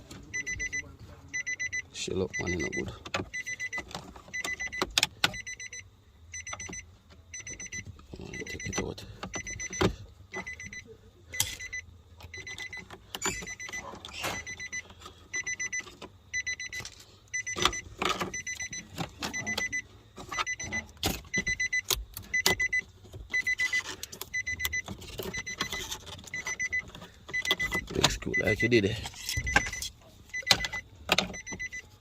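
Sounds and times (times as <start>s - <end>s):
electronic warning beeper: 0.3s - 31.8s.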